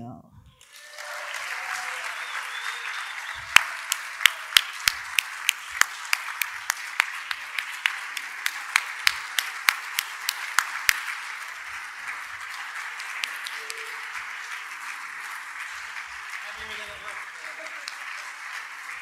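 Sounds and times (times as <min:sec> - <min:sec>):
audience applauding: 0:00.6 - 0:19.0
loud sharp hand claps: 0:00.6 - 0:19.0.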